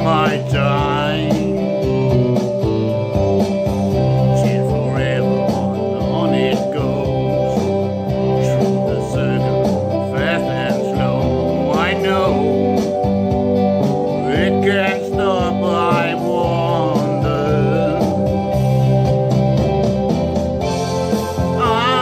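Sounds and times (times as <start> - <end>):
country-rock song: 0.0 - 22.0.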